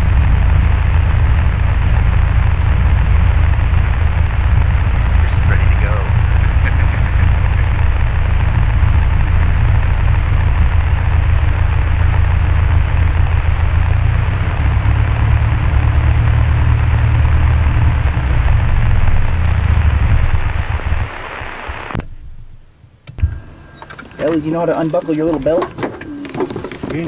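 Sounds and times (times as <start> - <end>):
piston aircraft engine running: 0.0 - 27.0.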